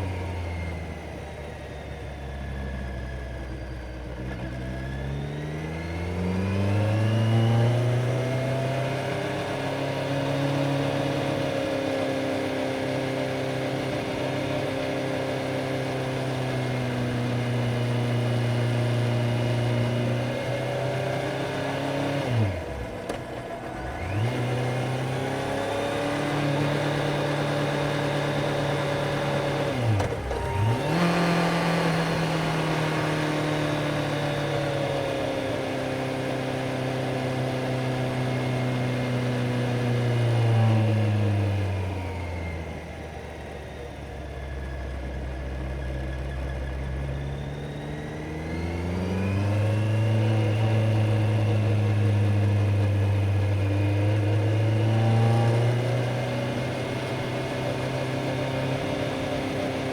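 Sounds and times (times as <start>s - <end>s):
motorcycle engine revving: 4.2s - 43.2s, 46.2s - 59.9s.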